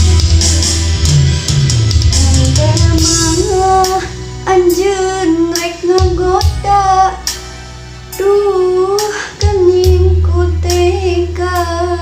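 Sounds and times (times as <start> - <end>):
backing track with bass line: 0.0 - 12.0
girl singing pop song: 1.9 - 12.0.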